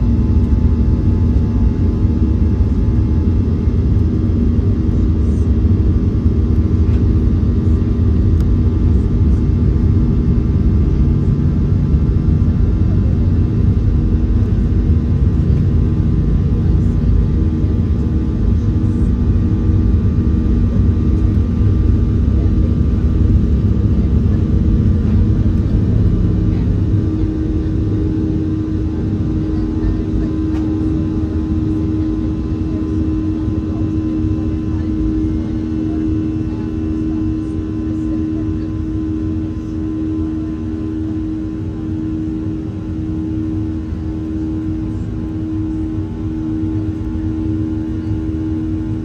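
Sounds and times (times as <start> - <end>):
jet engines at takeoff thrust: 0.0 - 49.0
steady engine hum: 0.0 - 49.0.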